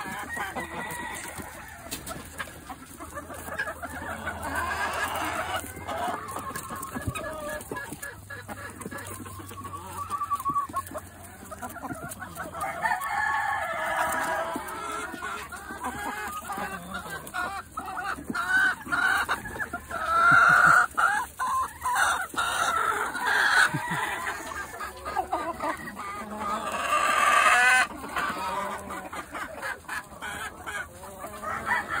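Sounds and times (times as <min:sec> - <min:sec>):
chickens clucking: 0:00.0 - 0:32.0
roosters crowing: 0:00.0 - 0:32.0.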